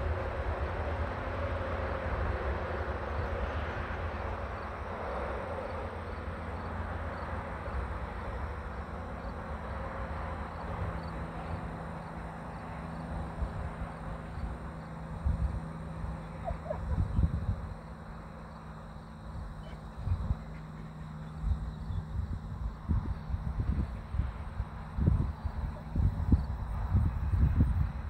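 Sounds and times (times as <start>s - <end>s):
steady low rumble: 0.0s - 28.0s
faint insect chirping: 2.8s - 28.0s.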